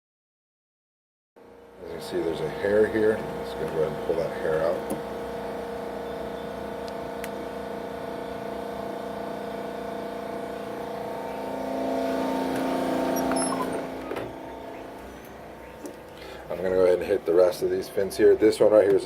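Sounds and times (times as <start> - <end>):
steady mechanical hum: 1.4 - 19.0.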